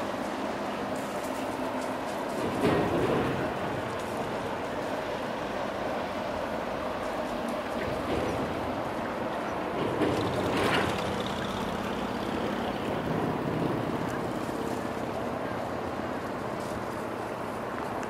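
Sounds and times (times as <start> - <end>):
distant engine hum: 0.0 - 18.0.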